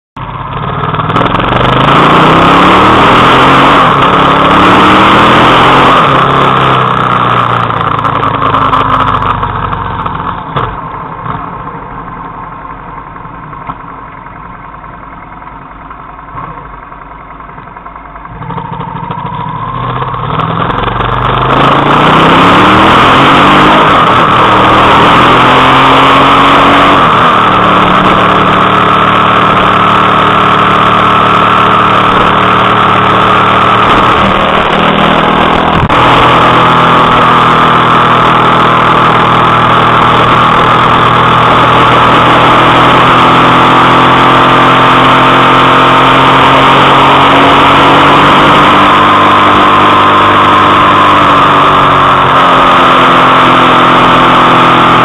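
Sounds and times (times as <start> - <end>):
motorcycle engine accelerating: 0.2 - 55.0.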